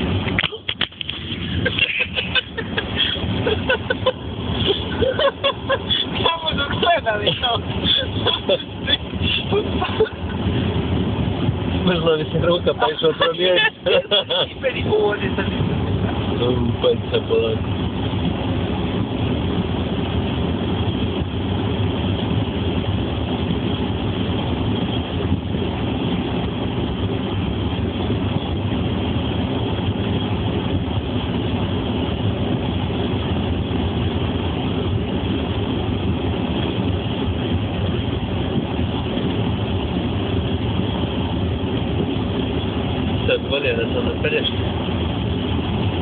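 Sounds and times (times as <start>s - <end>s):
car engine and tyre noise: 0.0s - 46.0s.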